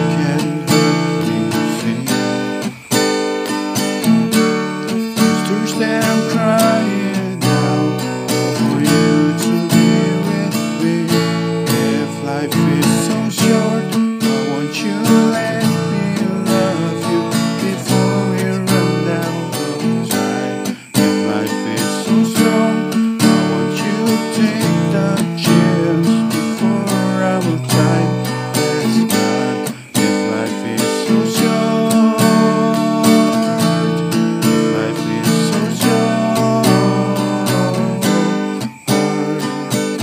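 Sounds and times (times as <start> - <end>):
acoustic guitar strummed and plucked: 0.0 - 40.0.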